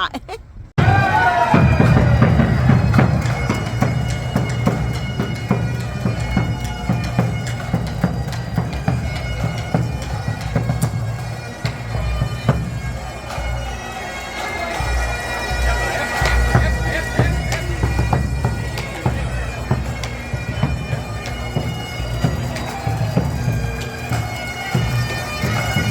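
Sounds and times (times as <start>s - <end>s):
bagpipes playing a tune: 0.8s - 25.9s.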